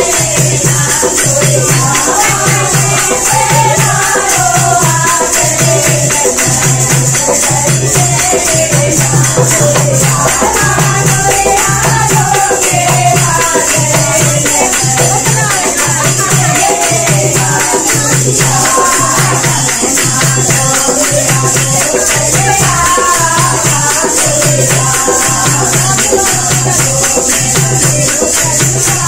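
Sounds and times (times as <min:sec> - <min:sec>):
hand clapping: 0:00.0 - 0:29.0
women singing folk song: 0:00.0 - 0:29.0.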